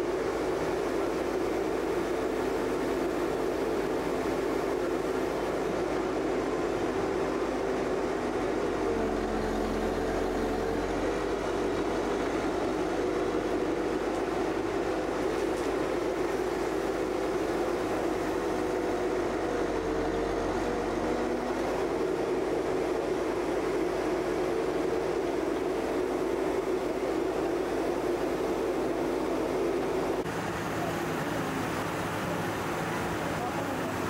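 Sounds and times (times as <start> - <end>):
diesel engine and hydraulics: 0.0 - 34.0.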